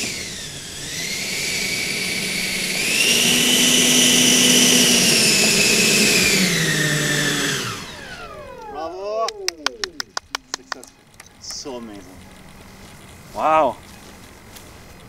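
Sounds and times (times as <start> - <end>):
electric ducted fan whining: 0.0 - 15.0.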